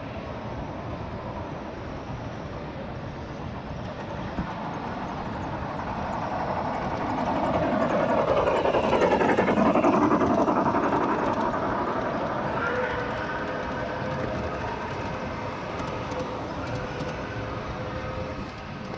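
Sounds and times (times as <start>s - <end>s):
model locomotive passing: 0.0s - 18.9s
model trains rumbling: 0.0s - 18.9s.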